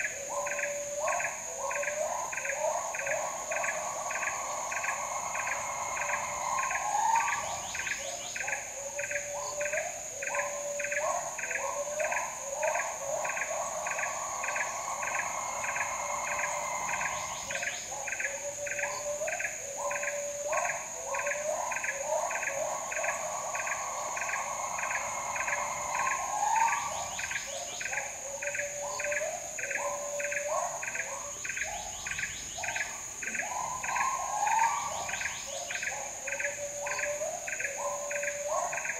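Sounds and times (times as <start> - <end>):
insect chirping: 0.0 - 38.9
insects whining high-pitched: 0.0 - 38.9
warbling trilling calls: 0.0 - 38.9.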